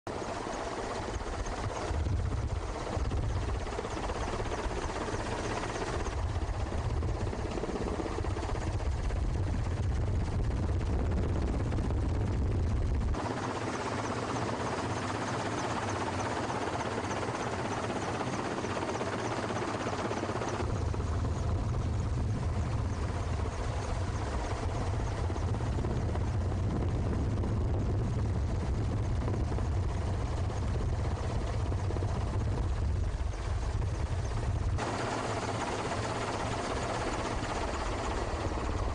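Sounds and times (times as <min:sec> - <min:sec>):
helicopter rotor and engine drone: 0:00.1 - 0:38.9.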